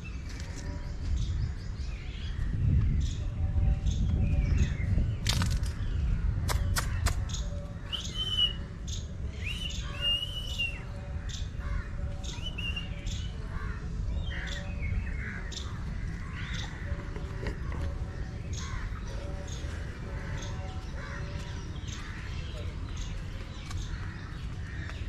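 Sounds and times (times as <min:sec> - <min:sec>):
birds chirping and whistling: 0:00.0 - 0:25.0
steady low rumble: 0:00.0 - 0:25.0.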